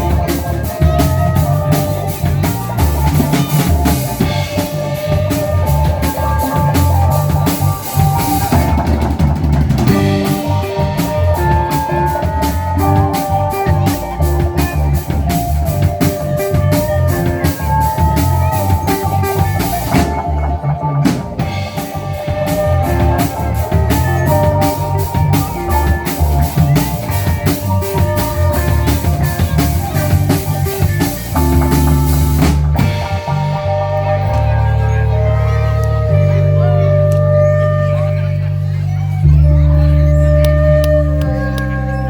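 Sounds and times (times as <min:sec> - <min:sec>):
rock band playing: 0:00.0 - 0:42.0.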